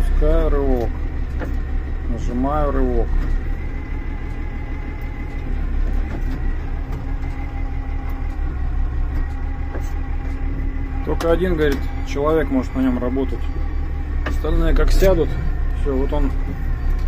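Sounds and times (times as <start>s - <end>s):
forklift diesel engine rumbling: 0.0s - 17.0s.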